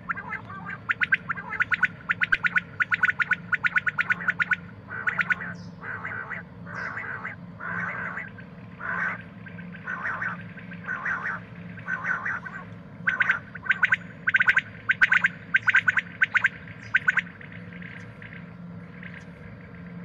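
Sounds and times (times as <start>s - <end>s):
quail calling: 0.0s - 19.3s
faint steady hum: 0.0s - 20.0s.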